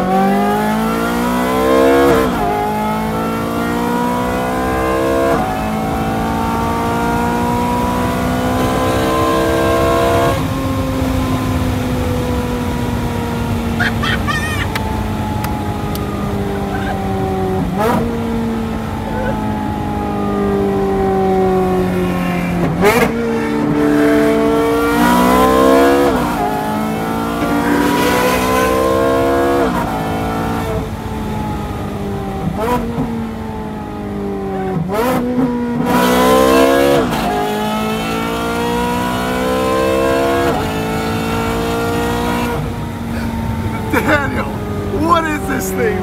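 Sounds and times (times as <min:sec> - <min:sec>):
car engine accelerating: 0:00.0 - 0:46.0.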